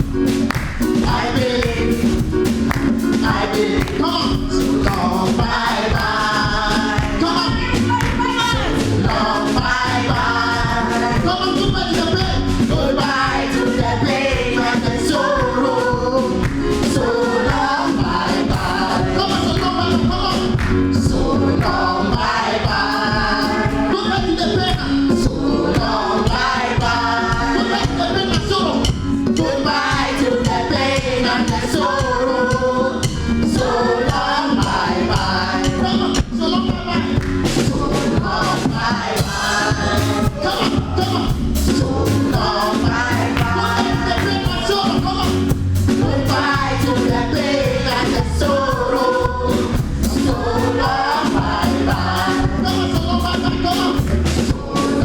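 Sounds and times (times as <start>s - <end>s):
gospel choir singing: 0.0s - 55.0s
live band with steady beat: 0.0s - 55.0s.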